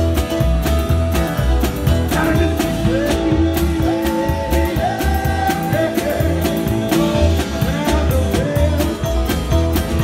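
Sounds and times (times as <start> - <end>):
bass and guitars: 0.0 - 10.0
drum beat: 0.0 - 10.0
man singing: 2.0 - 10.0.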